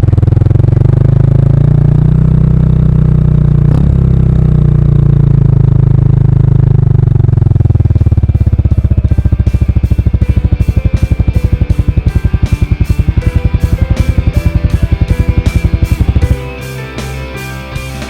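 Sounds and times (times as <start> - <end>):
motorcycle engine running loud: 0.0 - 18.0.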